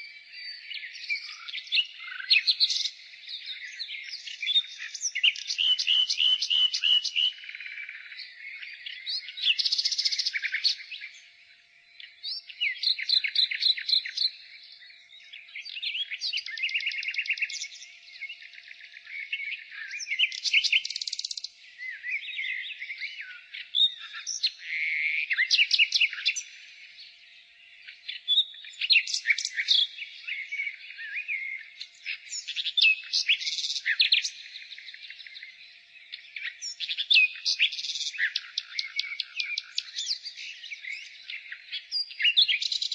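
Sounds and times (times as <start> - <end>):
nightingale singing trills: 0.0 - 42.9.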